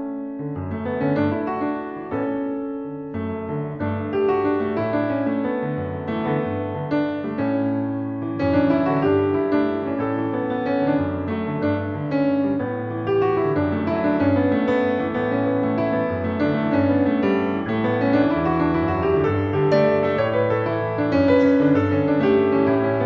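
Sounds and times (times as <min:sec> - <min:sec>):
solo jazz piano: 0:00.0 - 0:23.0.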